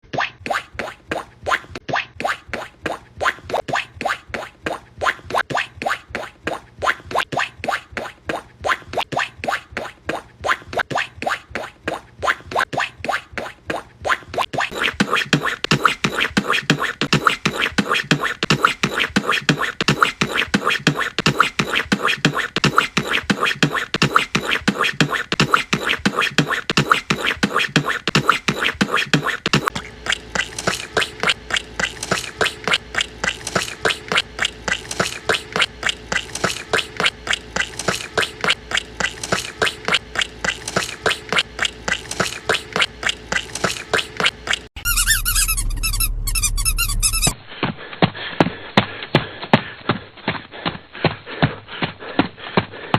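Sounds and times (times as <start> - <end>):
cartoon footstep sound effects: 0.0 - 52.7.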